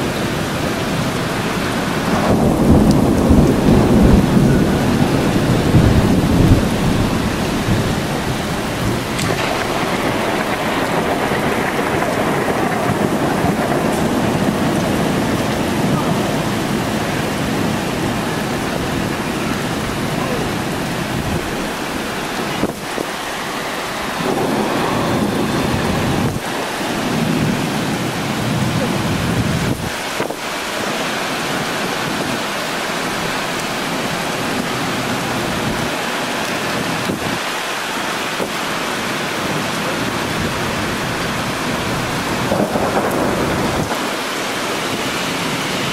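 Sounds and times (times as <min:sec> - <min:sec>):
heavy rain: 0:00.0 - 0:45.9
thunder rumbling: 0:00.0 - 0:45.9.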